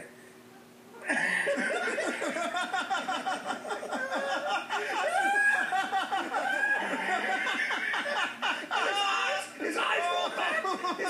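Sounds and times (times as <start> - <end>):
people laughing: 1.0 - 11.0.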